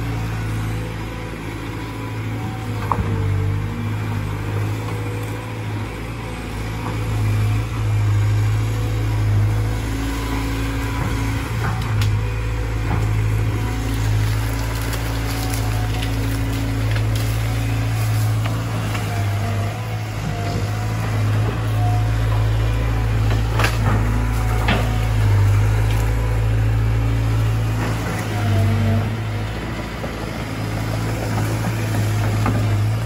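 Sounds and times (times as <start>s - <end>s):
excavator diesel engine drone: 0.0s - 33.0s.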